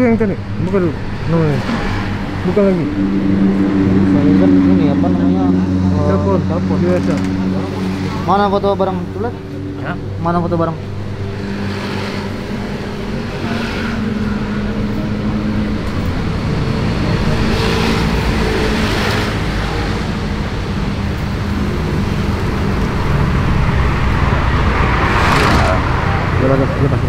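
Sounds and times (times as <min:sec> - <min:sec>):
road traffic rumble: 0:00.0 - 0:27.0
vehicle passing: 0:00.0 - 0:27.0.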